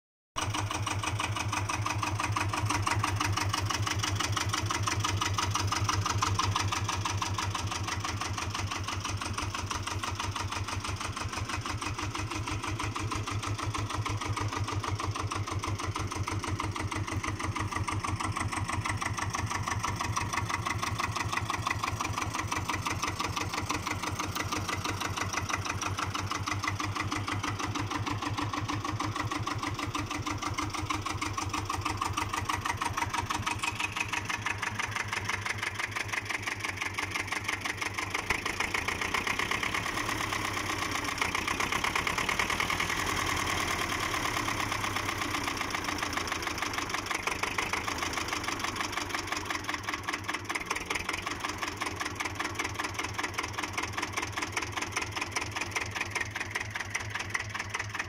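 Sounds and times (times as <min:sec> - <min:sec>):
tractor diesel engine idling: 0:00.4 - 0:58.0.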